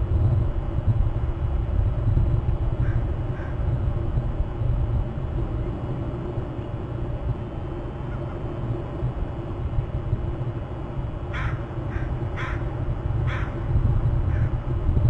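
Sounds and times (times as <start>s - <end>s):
low outdoor rumble and hiss: 0.0s - 15.0s.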